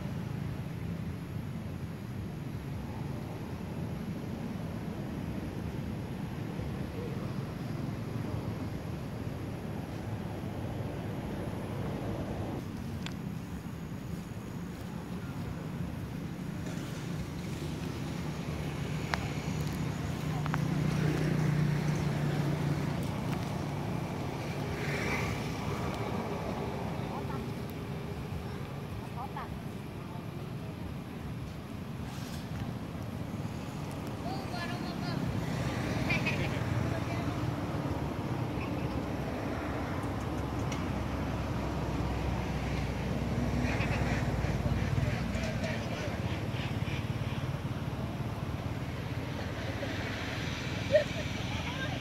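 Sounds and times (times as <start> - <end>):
vehicle engine rumbling: 7.3 - 52.0.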